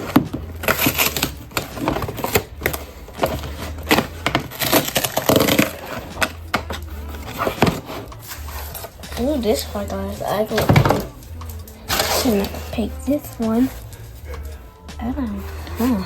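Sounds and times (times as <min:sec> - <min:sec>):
toy packaging crackling: 0:00.0 - 0:14.8.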